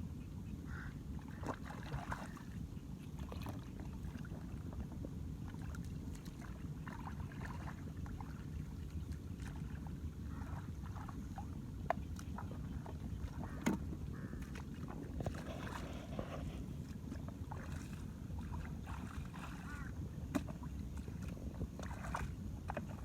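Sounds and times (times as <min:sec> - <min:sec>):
wind rumble on microphone: 0:00.0 - 0:23.0
water splashing and sloshing: 0:00.7 - 0:23.0.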